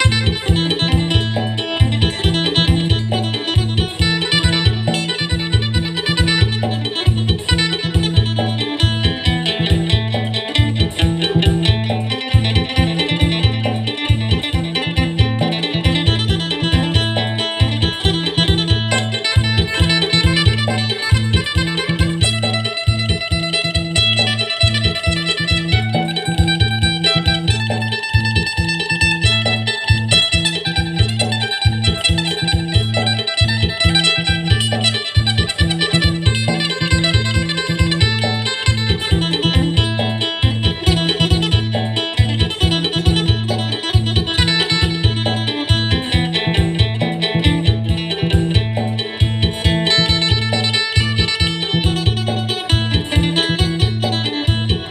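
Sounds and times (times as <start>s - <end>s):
bass-heavy beat: 0.0s - 54.9s
plucked lute melody: 0.0s - 54.9s.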